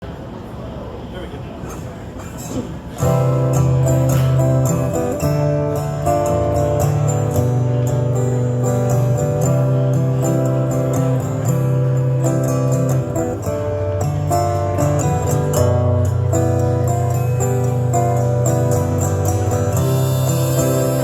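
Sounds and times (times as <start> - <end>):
acoustic guitar strumming: 2.4 - 21.0.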